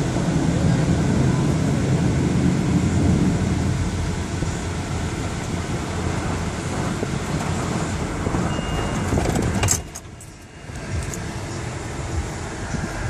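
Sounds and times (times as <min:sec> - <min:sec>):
car wash machinery: 0:00.0 - 0:13.0
car wash water spray: 0:00.0 - 0:13.0.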